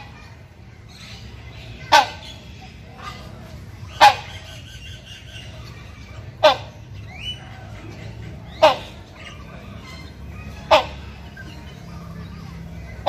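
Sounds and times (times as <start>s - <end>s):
hornbill calling: 0.9s - 13.0s.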